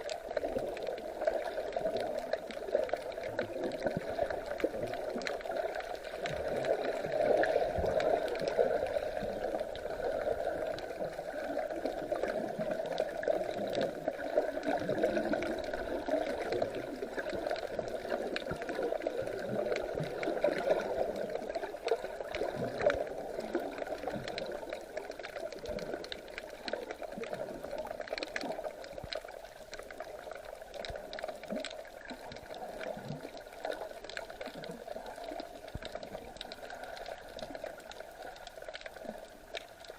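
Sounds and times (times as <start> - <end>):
sea water gurgling and sloshing: 0.0 - 39.9.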